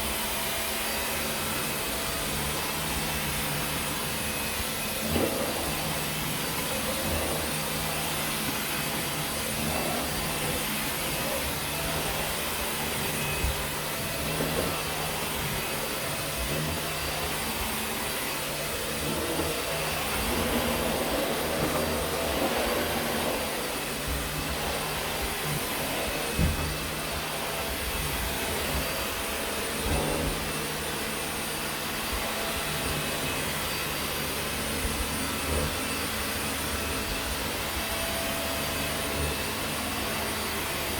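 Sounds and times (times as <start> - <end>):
vacuum cleaner running on carpet: 0.0 - 40.9.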